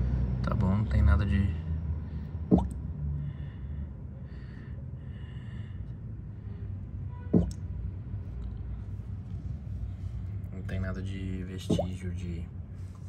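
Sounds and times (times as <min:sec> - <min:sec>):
low steady hum: 0:02.0 - 0:13.0.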